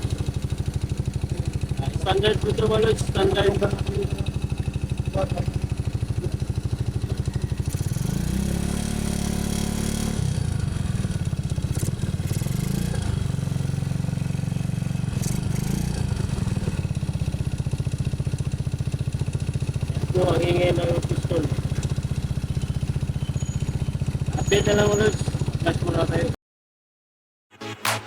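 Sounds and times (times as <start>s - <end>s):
engine knocking: 0.0s - 26.4s
motorcycle engine idling and revving: 0.0s - 26.4s.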